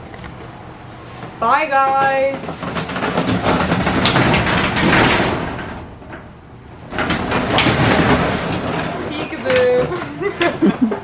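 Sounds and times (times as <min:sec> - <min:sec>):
metal roll-up door rattling: 0:01.7 - 0:11.0.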